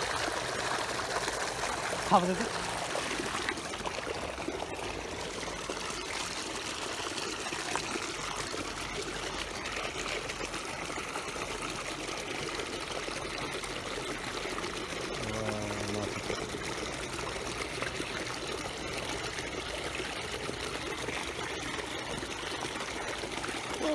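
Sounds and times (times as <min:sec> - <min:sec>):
water trickling: 0:00.0 - 0:23.9.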